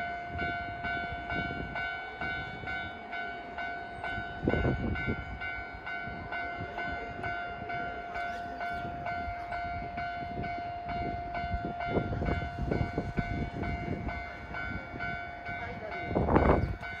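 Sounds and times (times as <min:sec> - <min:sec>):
level-crossing warning bell ringing: 0:00.0 - 0:17.0
train rumbling and clattering on rails: 0:00.0 - 0:17.0.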